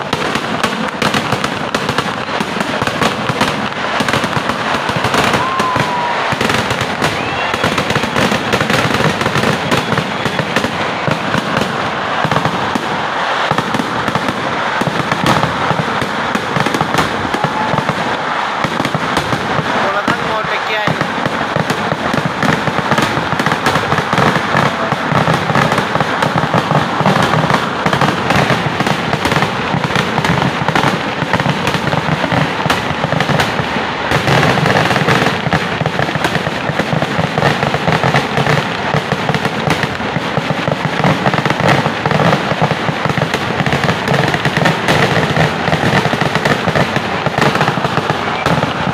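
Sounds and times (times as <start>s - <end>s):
firecrackers barrage: 0.0s - 48.9s.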